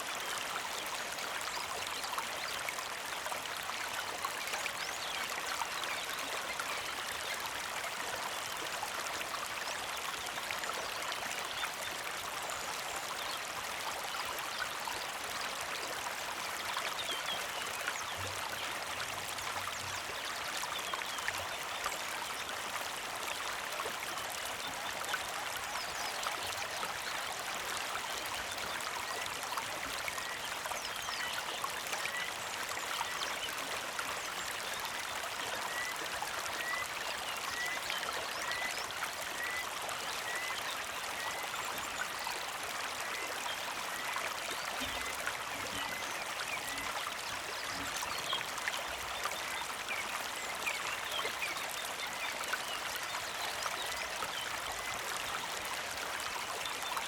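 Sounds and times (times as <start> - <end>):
small creek flowing: 0.0 - 57.0.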